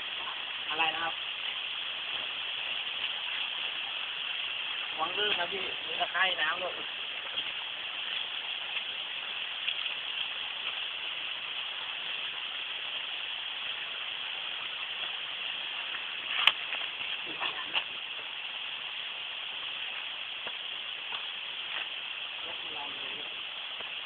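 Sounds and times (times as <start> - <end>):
stream water flowing: 0.0 - 24.0.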